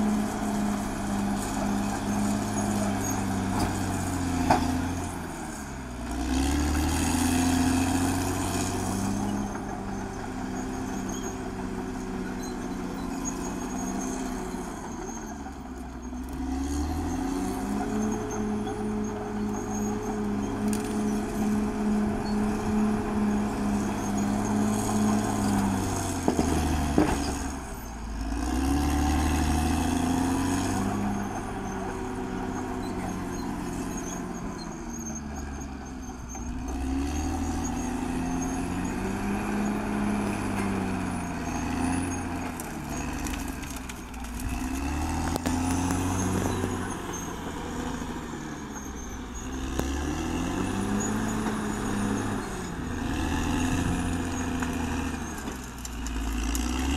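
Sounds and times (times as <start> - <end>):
bulldozer diesel engine under load: 0.0 - 56.9.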